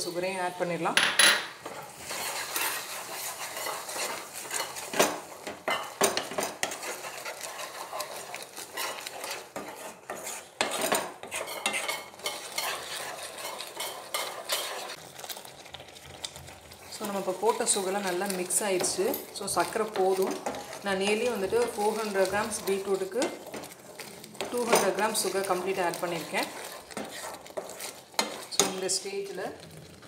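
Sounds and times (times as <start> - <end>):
food sizzling: 0.0 - 30.0
spatula scraping frying pan: 0.0 - 30.0.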